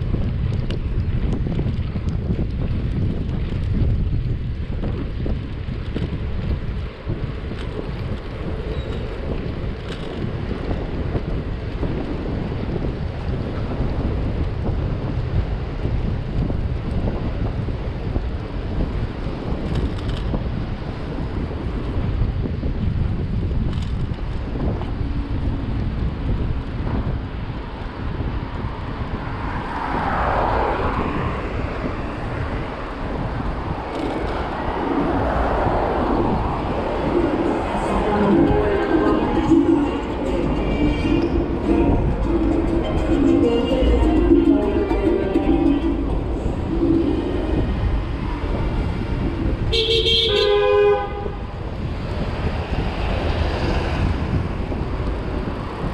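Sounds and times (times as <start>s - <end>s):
passing vehicle: 0.0s - 55.9s
wind buffeting microphone: 0.0s - 55.9s.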